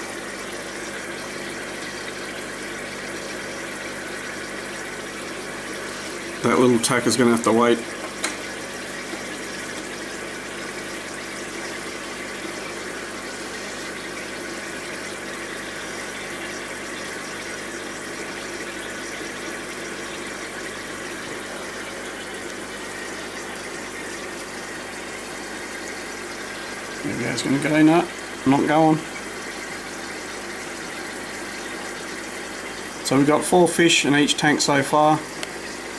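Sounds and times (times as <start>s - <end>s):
aquarium filters bubbling: 0.0s - 35.9s.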